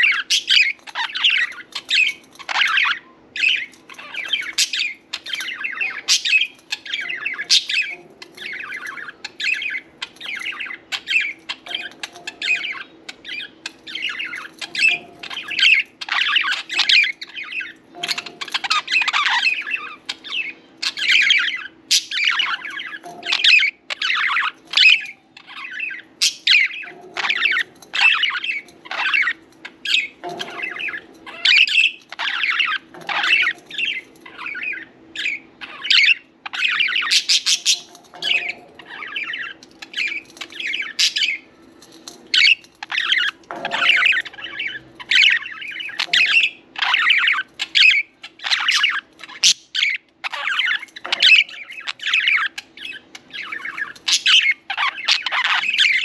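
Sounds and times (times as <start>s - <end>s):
budgerigars chirping: 0.0s - 41.6s, 42.2s - 56.0s.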